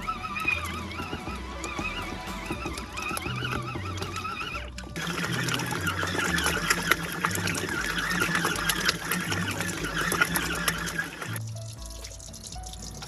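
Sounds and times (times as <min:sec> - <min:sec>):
background music: 0:00.0 - 0:13.0
rattling clicks of bouncing tub: 0:00.0 - 0:13.0
washing machine motor running: 0:00.0 - 0:13.0.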